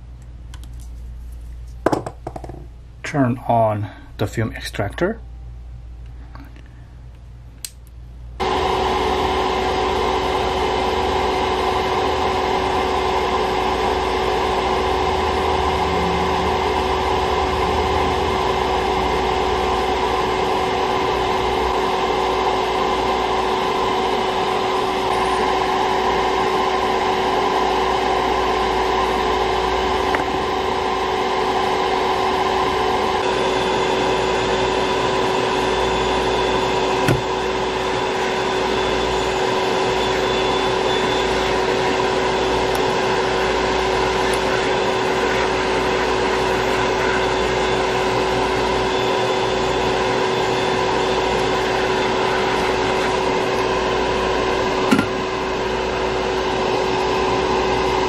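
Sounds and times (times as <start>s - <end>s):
extractor fan humming: 0.2s - 58.0s.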